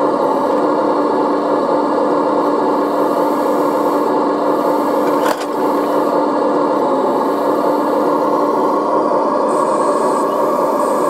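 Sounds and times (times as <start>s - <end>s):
model excavator hydraulic hum: 0.0s - 11.0s.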